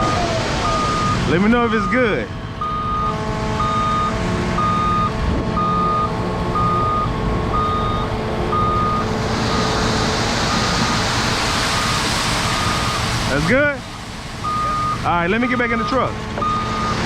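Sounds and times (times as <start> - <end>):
diesel engine running: 0.0 - 17.0
truck reversing alarm beeping: 0.0 - 17.0.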